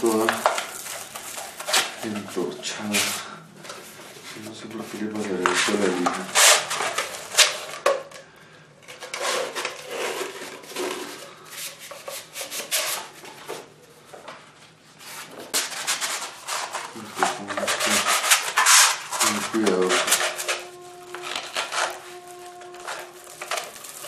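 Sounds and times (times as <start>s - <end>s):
metal scraping on sandpaper: 0.0s - 3.3s, 4.2s - 7.8s, 9.1s - 13.2s, 15.0s - 24.0s.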